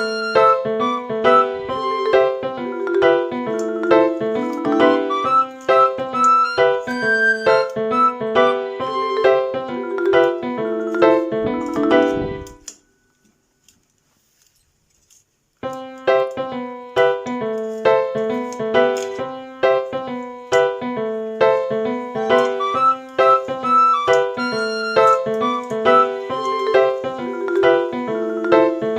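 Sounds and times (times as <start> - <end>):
background piano music: 0.0 - 12.8, 15.6 - 28.9.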